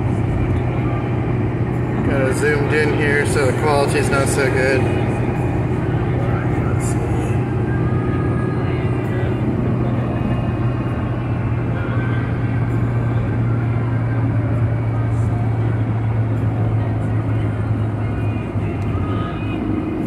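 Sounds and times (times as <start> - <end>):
road noise: 0.0 - 20.0
vehicle engine drone: 0.0 - 20.0.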